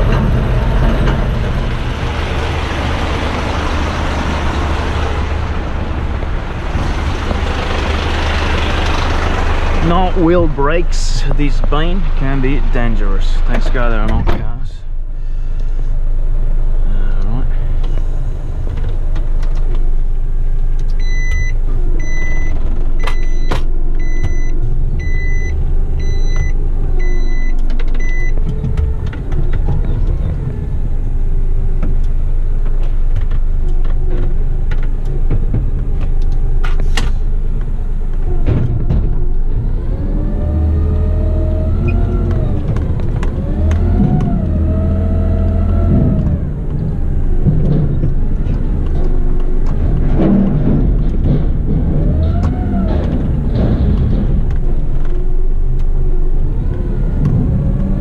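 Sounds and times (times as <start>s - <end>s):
diesel truck engine running: 0.0s - 58.0s
engine revving: 0.0s - 58.0s.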